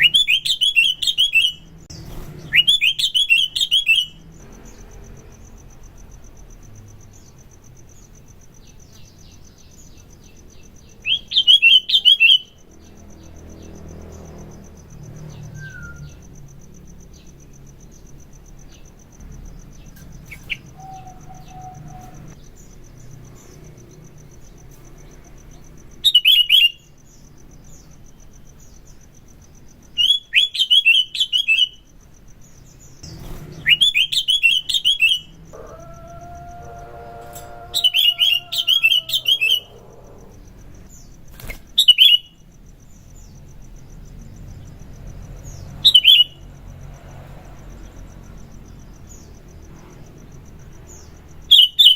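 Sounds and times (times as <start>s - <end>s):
bird rapid chattering song: 0.0s - 36.2s, 37.8s - 46.5s.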